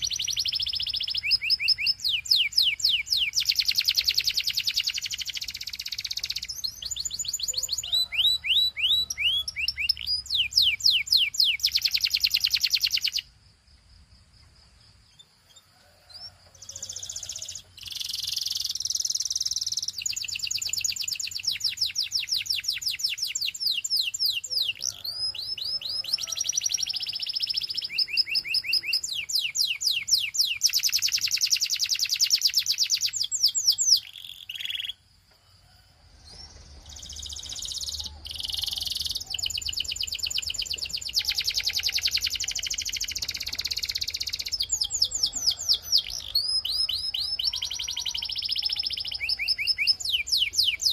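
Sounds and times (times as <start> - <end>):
canary singing trills: 0.0 - 13.3, 15.1 - 35.1, 36.2 - 50.9.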